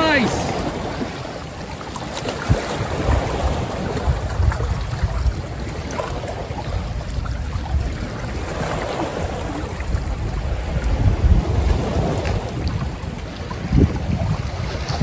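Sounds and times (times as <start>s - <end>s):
water washing against rocks: 0.0s - 15.0s
wind buffeting microphone: 0.0s - 15.0s.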